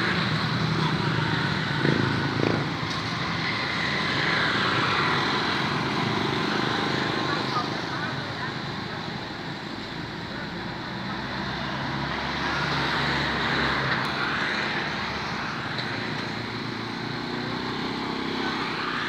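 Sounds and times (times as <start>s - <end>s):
motorbikes and cars passing: 0.0s - 19.0s.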